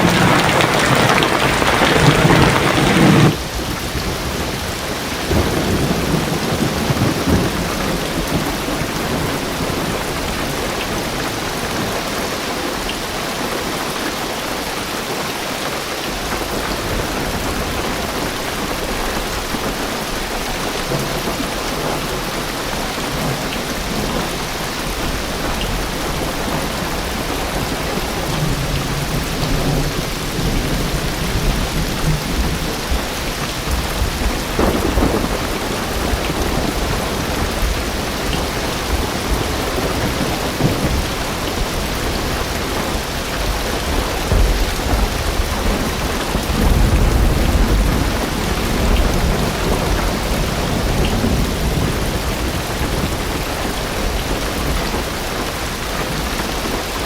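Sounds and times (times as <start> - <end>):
thunder rumbling: 0.0 - 13.6, 16.1 - 57.0
heavy rain on a car roof: 0.0 - 57.0.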